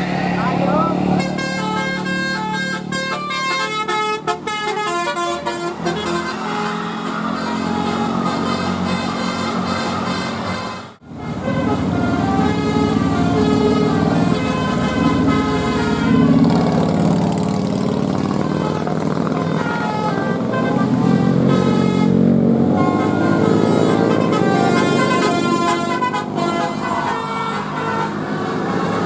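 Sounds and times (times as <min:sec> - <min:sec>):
musical bus horn tune: 0:00.0 - 0:29.0.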